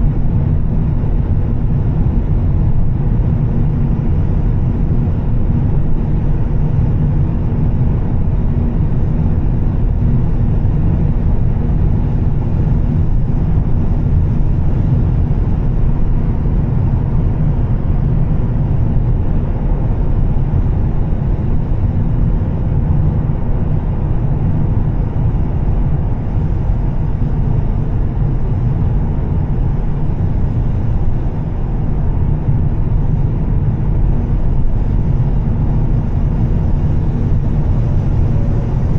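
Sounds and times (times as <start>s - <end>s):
car engine and exhaust drone: 0.0s - 38.9s
road noise: 0.0s - 38.9s.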